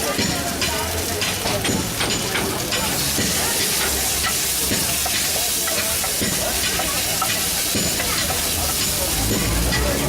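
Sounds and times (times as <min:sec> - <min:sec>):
chicken frying with sizzle: 0:00.0 - 0:10.0
utensil clicking against pan: 0:00.0 - 0:10.0.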